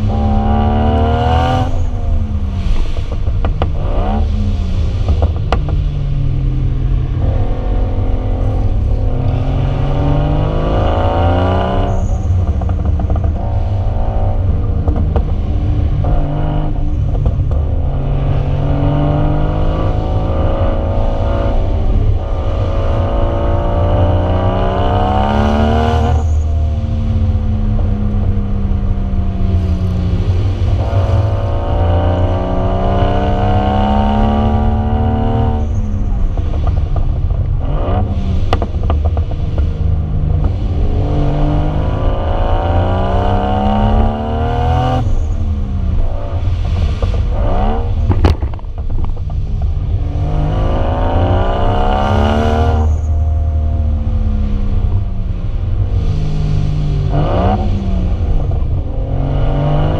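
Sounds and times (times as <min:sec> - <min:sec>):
car engine revving under way: 0:00.0 - 0:59.9.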